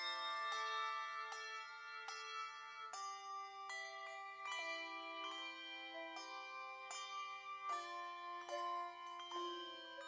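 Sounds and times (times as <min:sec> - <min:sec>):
bells playing slow tune: 0:00.0 - 0:10.0.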